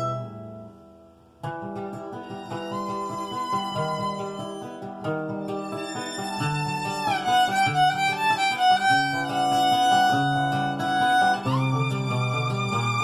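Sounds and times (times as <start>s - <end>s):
violin melody: 0.0s - 0.6s, 2.0s - 13.0s
low plucked accompaniment: 0.0s - 13.0s.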